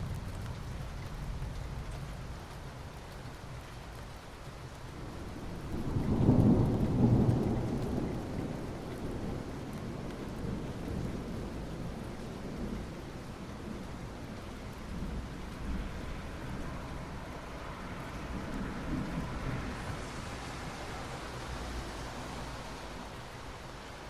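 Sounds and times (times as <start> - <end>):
soft rain on asphalt: 0.0 - 24.0.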